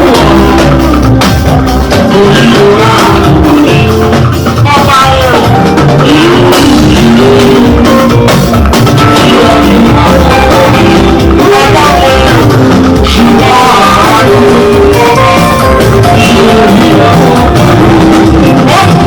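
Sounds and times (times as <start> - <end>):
lead singer singing: 0.0 - 19.0
live band music: 0.0 - 19.0.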